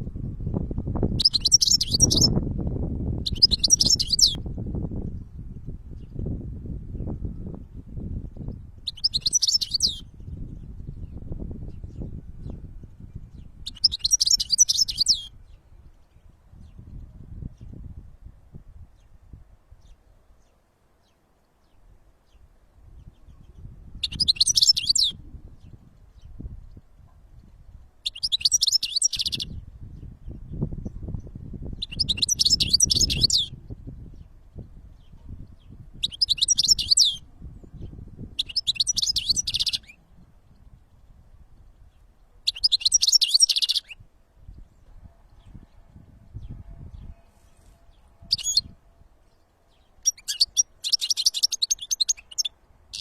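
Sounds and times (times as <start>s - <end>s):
finch twittering song: 0.5s - 2.4s, 3.2s - 4.5s, 7.0s - 17.9s, 19.8s - 41.1s, 41.8s - 53.0s.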